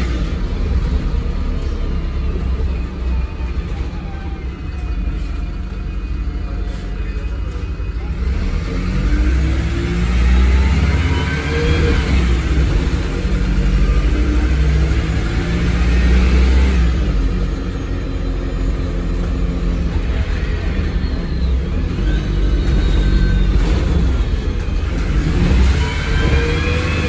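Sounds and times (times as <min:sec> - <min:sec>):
bus engine rumble and whine: 0:00.0 - 0:27.0.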